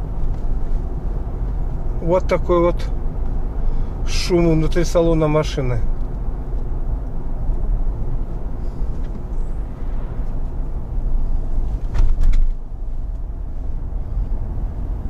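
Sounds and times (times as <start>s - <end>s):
wind and tyre road noise: 0.0s - 15.0s.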